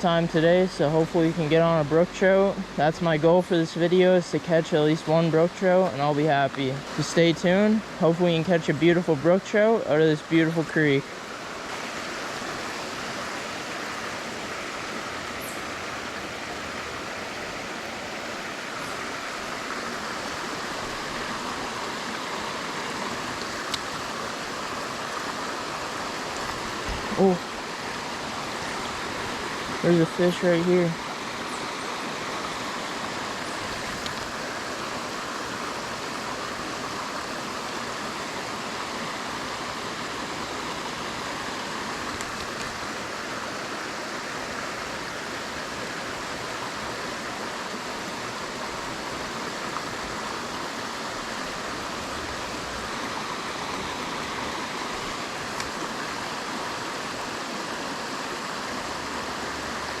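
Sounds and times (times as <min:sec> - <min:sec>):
creek flowing: 0:00.0 - 1:00.0.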